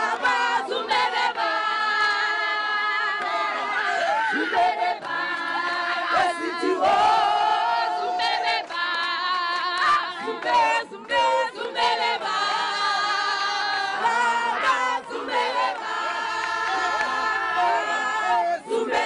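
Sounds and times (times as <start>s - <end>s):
crowd singing unaccompanied: 0.0s - 19.0s.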